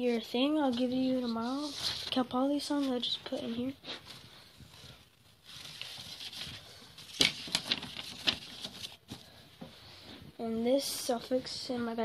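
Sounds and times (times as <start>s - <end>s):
paper rustling: 0.0s - 9.7s.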